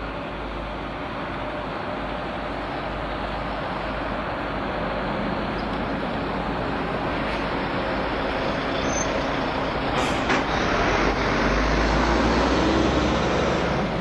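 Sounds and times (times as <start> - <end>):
heavy diesel engines running: 0.0 - 14.0.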